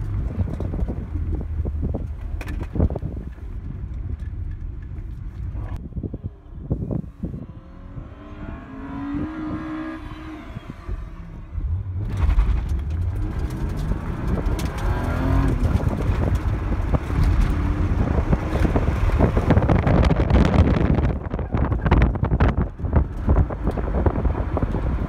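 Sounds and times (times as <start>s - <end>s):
car engine revving: 0.0s - 25.0s
wind and road noise: 0.0s - 25.0s.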